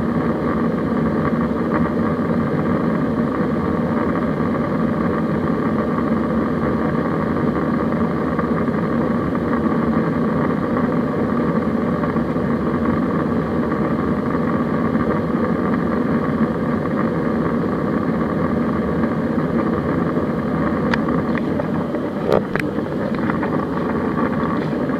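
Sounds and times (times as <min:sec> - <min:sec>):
airplane cabin engine hum: 0:00.0 - 0:24.9.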